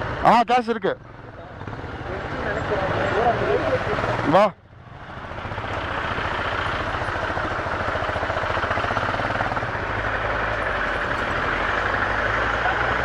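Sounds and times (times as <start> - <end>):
motorcycle engine idling: 1.0 - 13.0.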